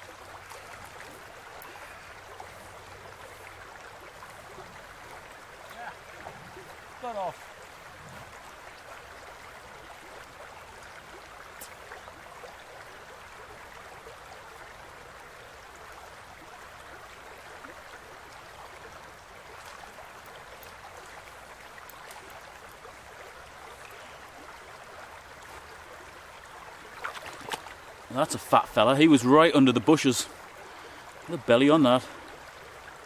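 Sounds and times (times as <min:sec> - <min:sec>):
river running over stones: 0:00.0 - 0:33.0.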